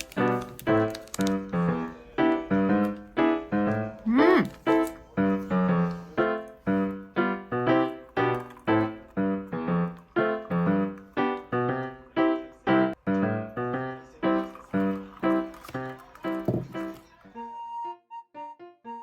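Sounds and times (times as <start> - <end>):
piano melody: 0.0 - 19.0.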